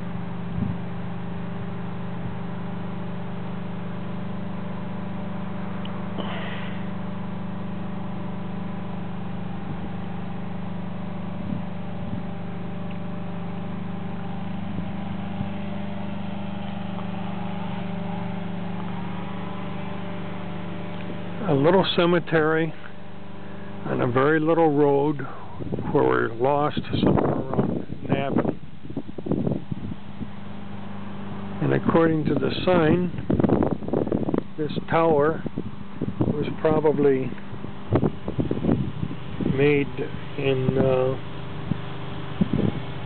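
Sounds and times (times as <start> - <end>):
motor humming: 0.0 - 43.0.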